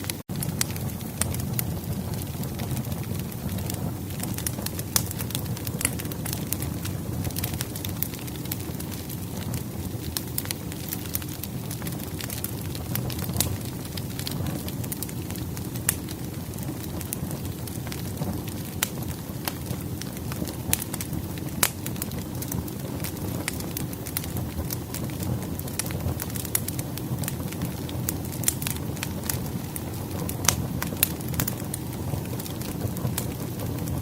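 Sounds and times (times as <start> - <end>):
fire crackling in fireplace: 0.0 - 34.0
rush of flames: 0.0 - 34.0.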